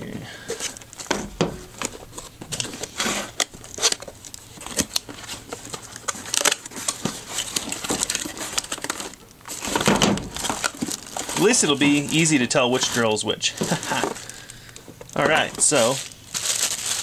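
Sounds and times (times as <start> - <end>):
cardboard box rustling and scraping: 0.5 - 14.4, 15.2 - 17.0.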